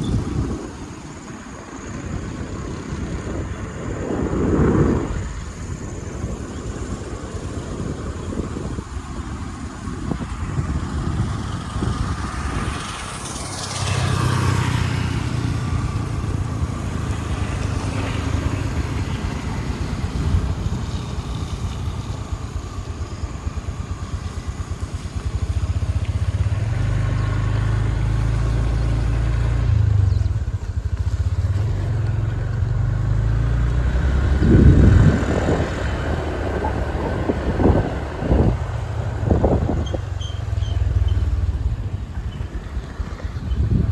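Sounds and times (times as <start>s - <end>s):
motorcycle engine revving: 0.0s - 43.9s
wind noise on microphone: 0.0s - 43.9s.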